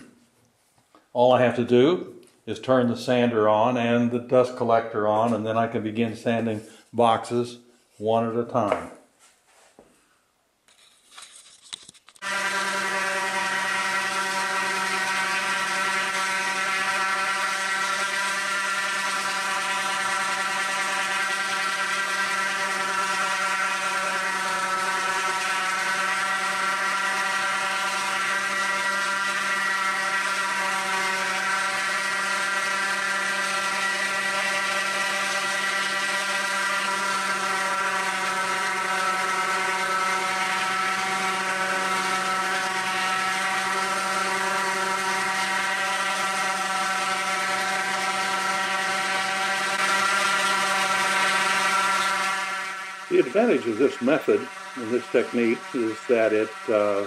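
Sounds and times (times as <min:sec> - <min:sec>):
sander whirring: 0:00.0 - 0:57.0
dust collector running: 0:01.2 - 0:01.9, 0:02.5 - 0:07.5, 0:12.2 - 0:57.0
wooden boxes sanded: 0:10.7 - 0:57.0.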